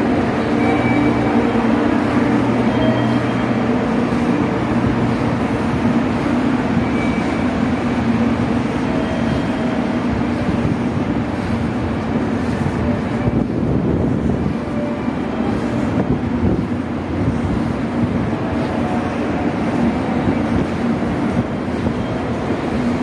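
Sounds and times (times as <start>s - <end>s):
train equipment humming: 0.0s - 23.0s.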